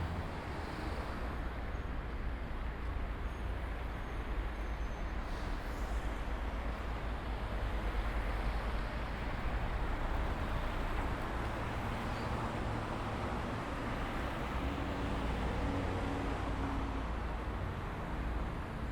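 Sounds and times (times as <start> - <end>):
road traffic: 0.0 - 18.9.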